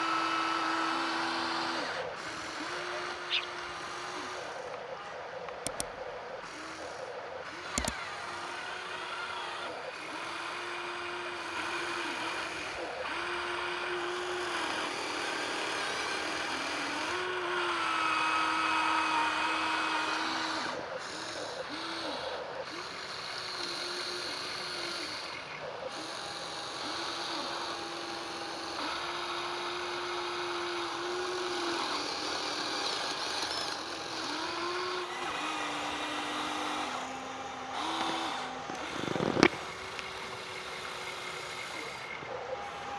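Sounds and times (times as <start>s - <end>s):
small electric motors whining: 0.0s - 42.9s.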